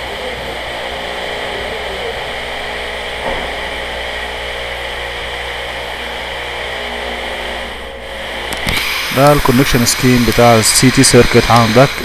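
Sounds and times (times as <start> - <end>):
steady droning hum: 0.0 - 12.0.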